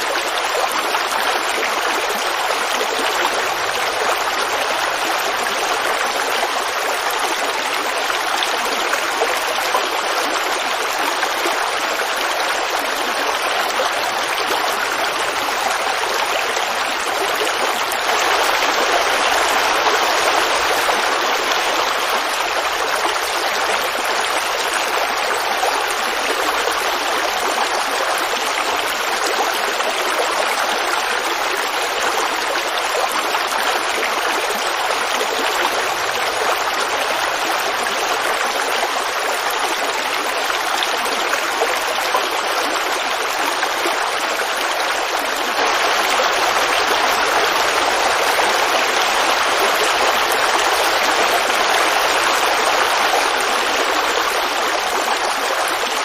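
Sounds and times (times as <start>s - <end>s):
creek water babbling over rocks: 0.0s - 56.0s.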